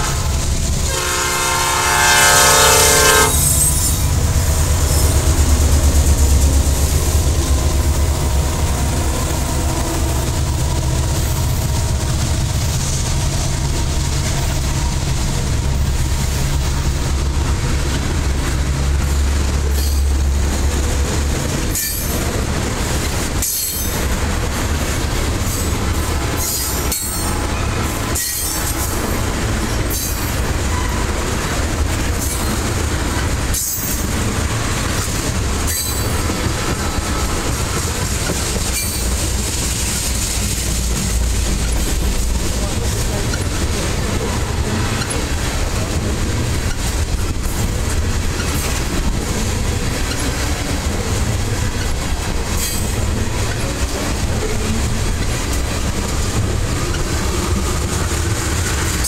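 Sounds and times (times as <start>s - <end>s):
diesel locomotive rumble: 0.0s - 59.0s
train wheels clicking over rails: 3.2s - 59.0s.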